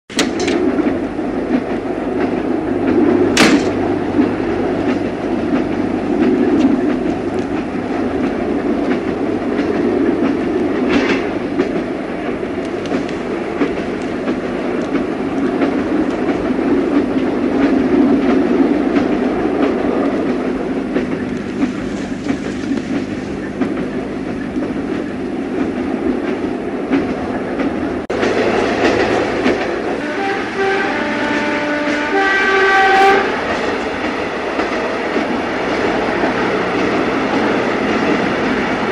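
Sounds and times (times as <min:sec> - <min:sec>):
wheels clicking over rail joints: 0:00.1 - 0:32.2, 0:33.2 - 0:38.9
train rumbling on rails: 0:00.1 - 0:38.9.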